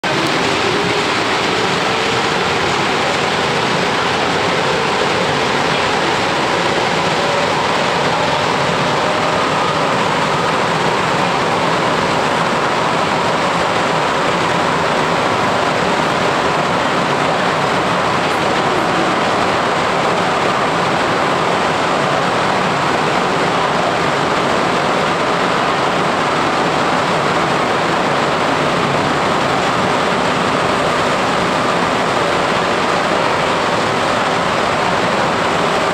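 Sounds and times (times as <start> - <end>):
metro car running noise: 0.0 - 35.9.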